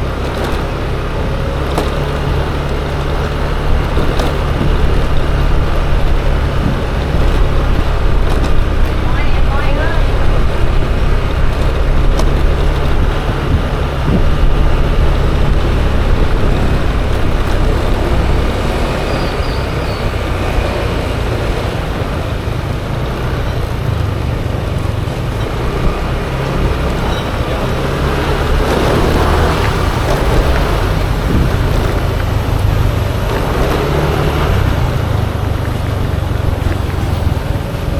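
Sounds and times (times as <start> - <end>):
scooter engine: 0.0 - 37.9
tyre noise: 0.0 - 37.9
wind: 0.0 - 37.9.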